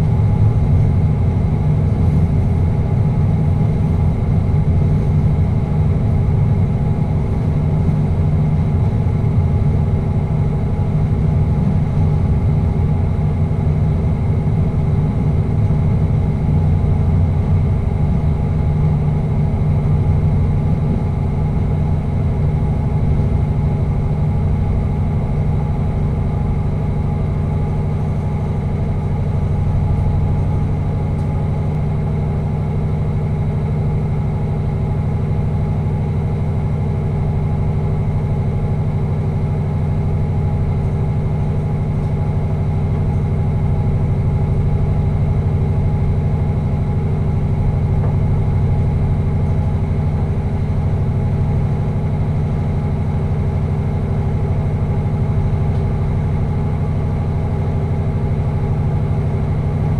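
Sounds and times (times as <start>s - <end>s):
train engine drone: 0.0s - 59.9s.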